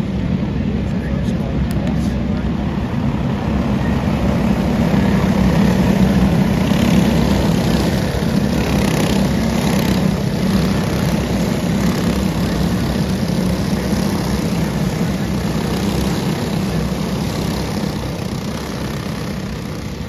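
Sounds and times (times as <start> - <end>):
kart engines buzzing: 0.0 - 20.0.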